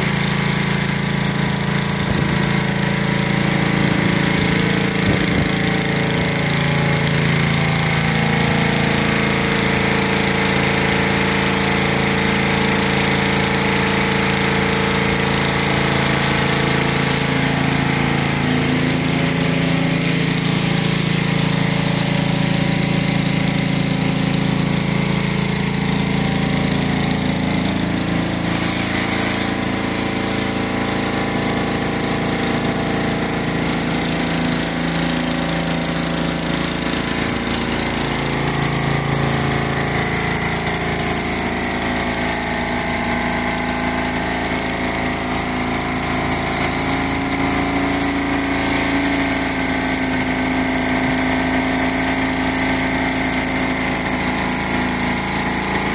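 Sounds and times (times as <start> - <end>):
pressure washer engine running: 0.0 - 55.9
water spraying onto pavement: 0.0 - 55.9.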